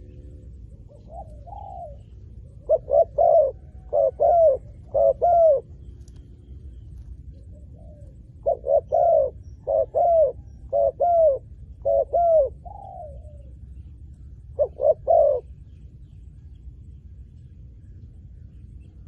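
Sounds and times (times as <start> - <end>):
dove cooing: 0.0 - 15.7.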